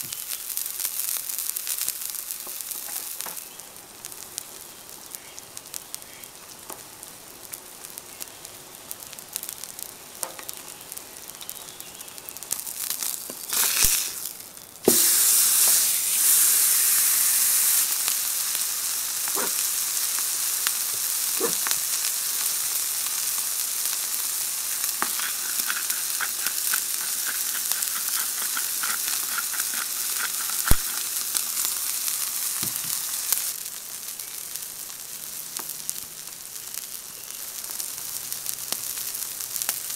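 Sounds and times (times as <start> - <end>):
steak sizzling on a griddle: 0.0 - 39.9.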